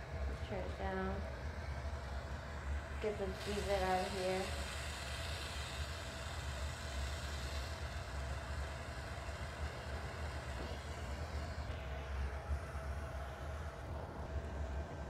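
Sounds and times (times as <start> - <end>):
low steady hum: 0.0 - 15.0
torch flame roaring: 0.0 - 15.0.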